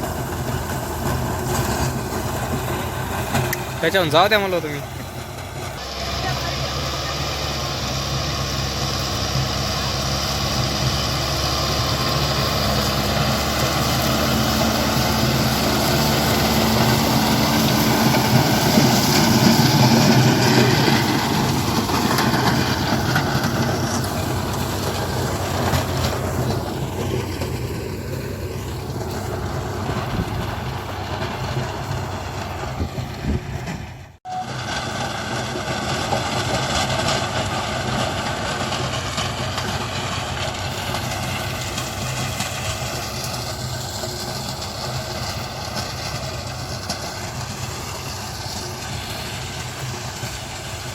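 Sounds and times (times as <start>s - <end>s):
tractor diesel engine running: 0.0s - 50.9s
rotary tiller rattling clatter: 9.1s - 50.9s.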